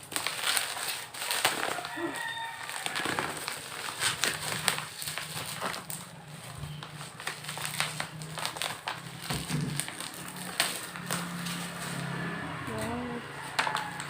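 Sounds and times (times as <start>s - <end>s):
packaging crinkling: 0.0s - 12.5s.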